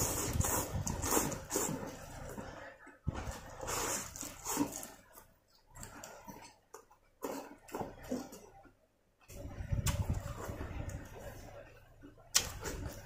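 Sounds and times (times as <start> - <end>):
chewing salad and noodles: 0.0 - 13.0.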